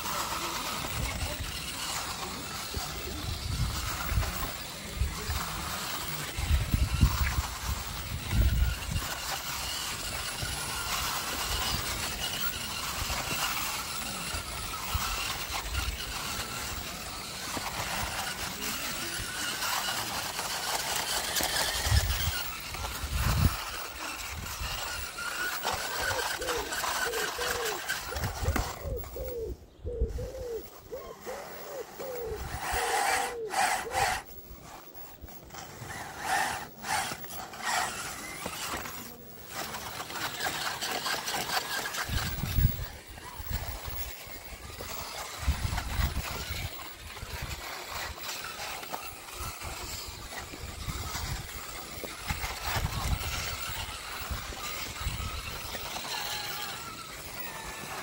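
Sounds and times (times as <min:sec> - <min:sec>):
rc crawler motor whining: 0:00.0 - 0:58.0.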